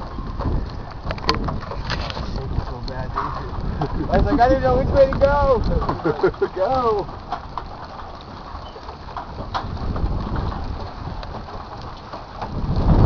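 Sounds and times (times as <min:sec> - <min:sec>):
wind on microphone: 0:00.0 - 0:13.0
faint clicks and taps: 0:00.3 - 0:12.6.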